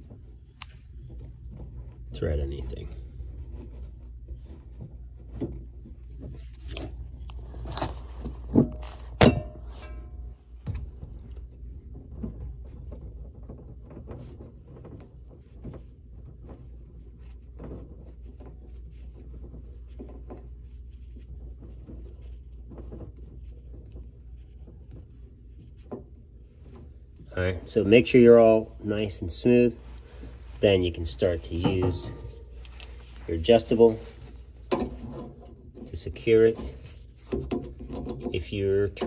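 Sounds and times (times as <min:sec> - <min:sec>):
low steady hum: 0:00.0 - 0:39.0
soft handling noises: 0:00.0 - 0:39.0.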